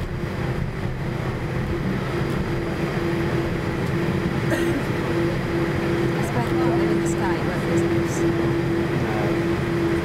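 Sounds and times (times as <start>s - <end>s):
aircraft engines rumbling: 0.0s - 10.0s.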